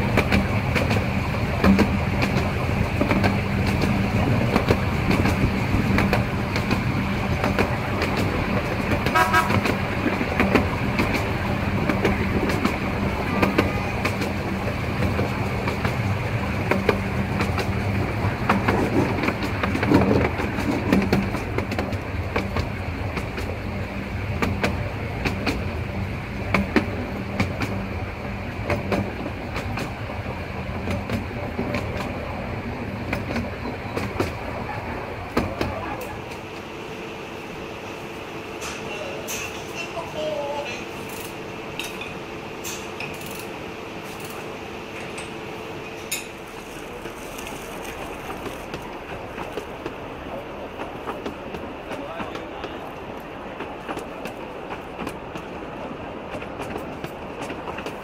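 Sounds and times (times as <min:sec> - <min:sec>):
miniature train humming: 0:00.0 - 0:58.0
rails and wheels clicking: 0:00.0 - 0:58.0.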